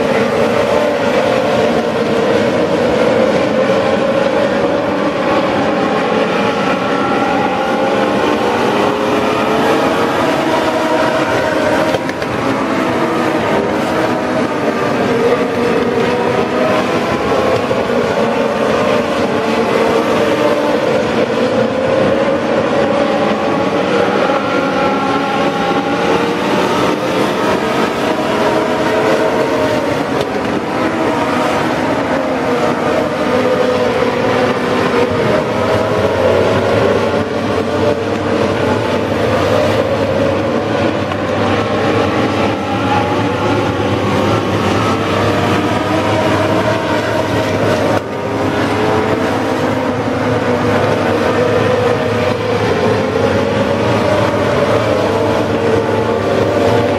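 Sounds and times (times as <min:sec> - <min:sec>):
race car engines droning: 0:00.0 - 0:56.9.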